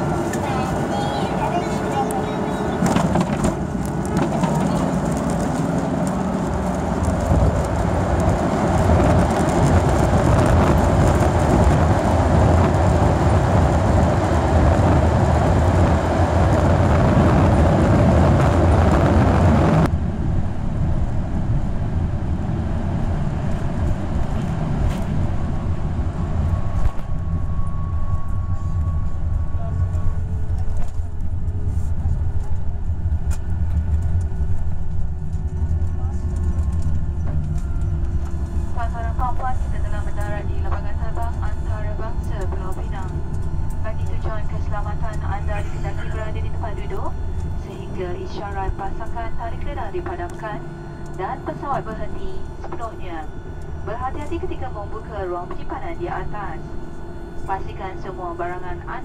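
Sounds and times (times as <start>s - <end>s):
jet engines in reverse thrust: 0.0s - 59.0s.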